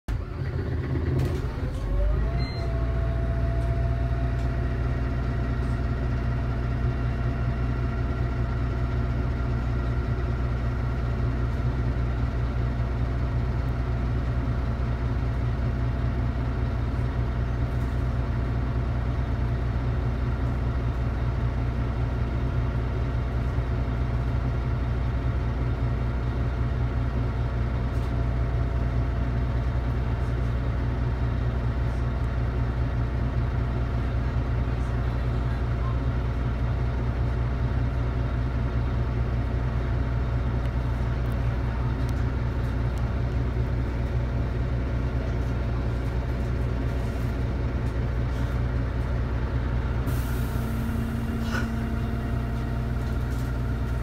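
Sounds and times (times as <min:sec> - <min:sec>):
bus diesel engine idling: 0:00.1 - 0:54.0.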